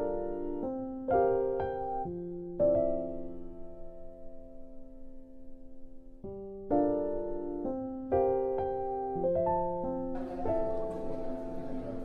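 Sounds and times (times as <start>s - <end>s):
gentle piano chords: 0.0s - 12.0s.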